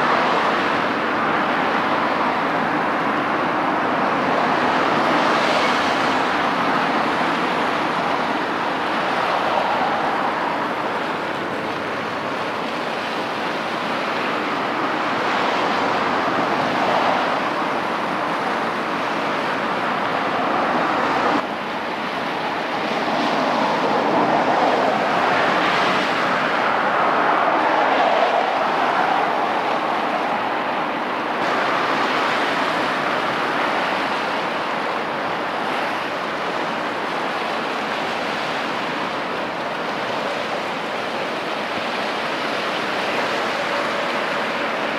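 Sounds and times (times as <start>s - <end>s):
steady rushing outdoor noise: 0.0s - 44.9s.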